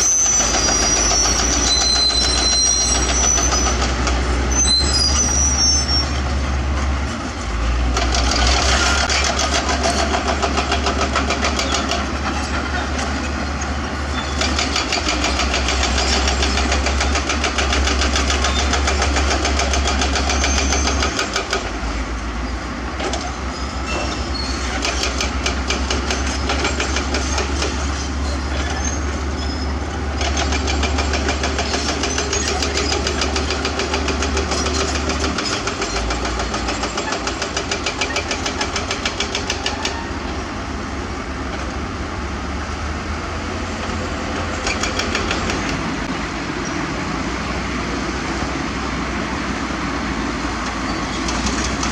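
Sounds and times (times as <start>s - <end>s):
heavy diesel engines clattering: 0.0s - 51.9s.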